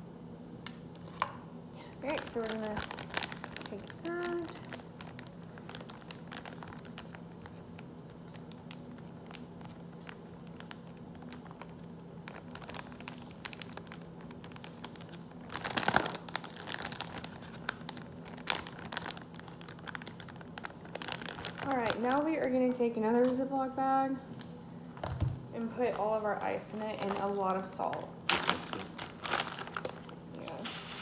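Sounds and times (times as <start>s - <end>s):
plastic bag crinkling: 1.8s - 23.5s, 24.2s - 31.0s.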